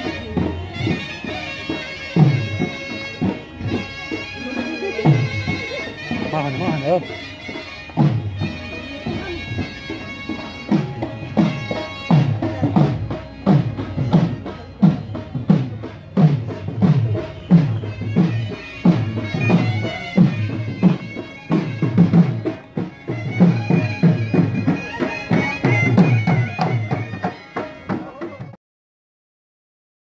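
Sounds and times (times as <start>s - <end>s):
drum beaten steadily: 0.0s - 28.6s
reedy wind instrument melody: 0.0s - 28.6s.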